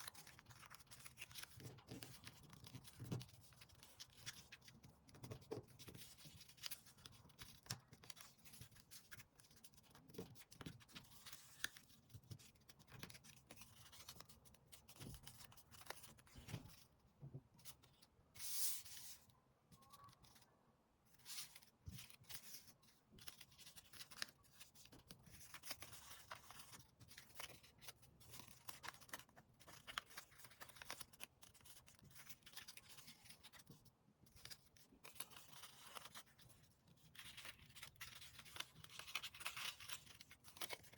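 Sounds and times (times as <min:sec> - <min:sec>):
paper rustling and creasing: 0:00.0 - 0:16.9, 0:21.1 - 0:40.9.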